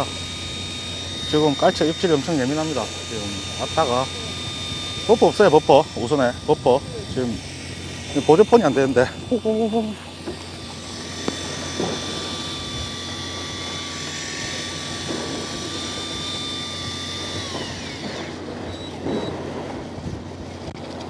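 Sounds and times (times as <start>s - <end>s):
motor whining: 0.0s - 20.1s
boat engine humming: 0.0s - 21.0s.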